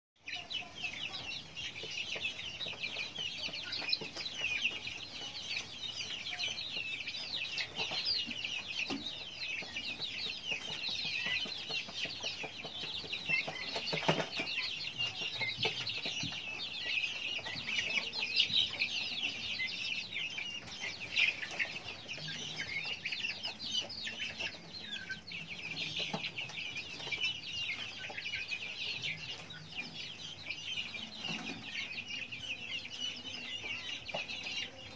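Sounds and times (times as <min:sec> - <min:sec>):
young birds chirping and peeping: 0:00.2 - 0:34.9.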